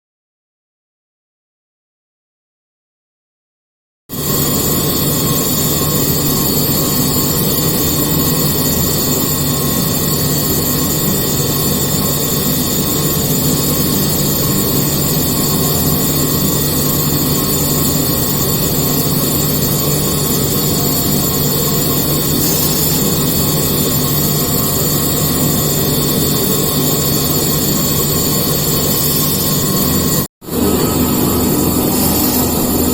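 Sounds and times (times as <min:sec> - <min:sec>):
milling machine running: 0:04.2 - 0:32.9.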